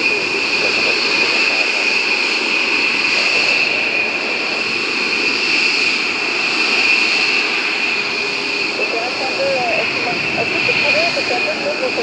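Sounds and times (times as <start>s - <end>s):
jet engines whining: 0.0s - 12.0s
jet exhaust rushing: 0.0s - 12.0s.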